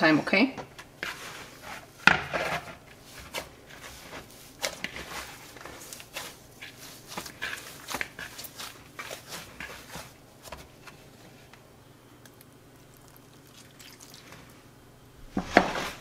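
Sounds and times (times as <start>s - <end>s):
hands kneading dough: 0.6s - 14.6s.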